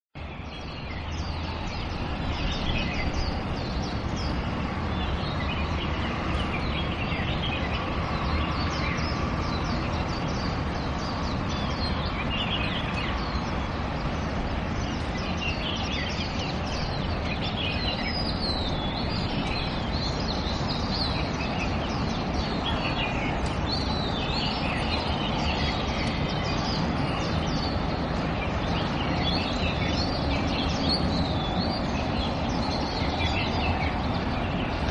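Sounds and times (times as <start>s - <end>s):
birds chirping: 0.2s - 34.9s.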